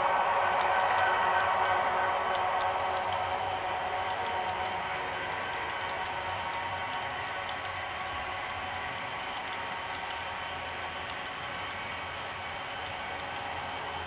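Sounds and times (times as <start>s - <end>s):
model train wheels clicking on rails: 0.0s - 14.0s
steady hum: 0.0s - 14.0s.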